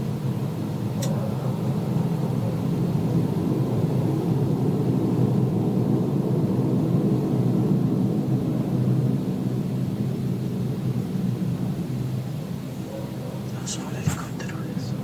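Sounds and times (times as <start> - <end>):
low droning hum: 0.2 - 15.0.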